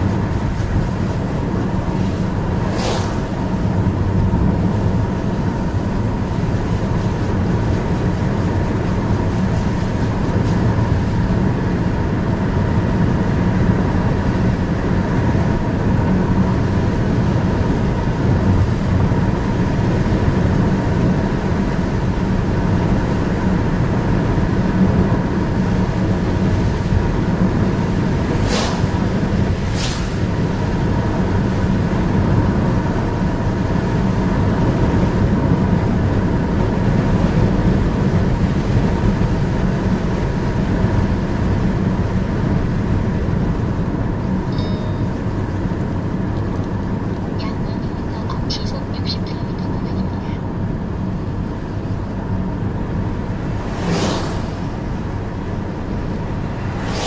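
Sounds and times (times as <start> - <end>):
car road and engine noise: 0.0 - 57.0
tyres on wet pavement: 0.0 - 57.0.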